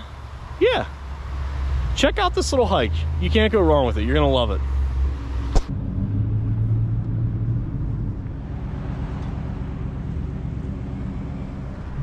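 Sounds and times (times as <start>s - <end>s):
car driving engine and road noise: 0.0s - 12.0s.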